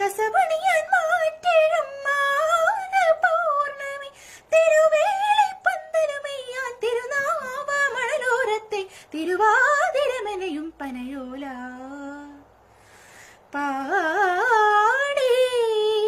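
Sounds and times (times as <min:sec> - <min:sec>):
woman singing unaccompanied: 0:00.0 - 0:12.5, 0:13.5 - 0:16.0.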